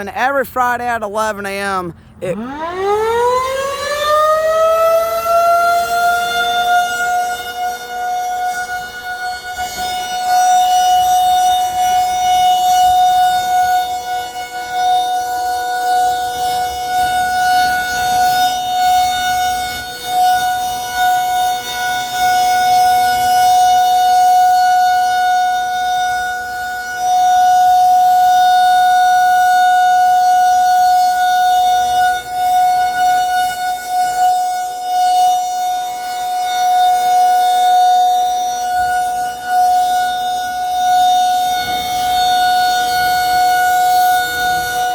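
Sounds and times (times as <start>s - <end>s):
rotating warning siren: 0.0s - 44.9s.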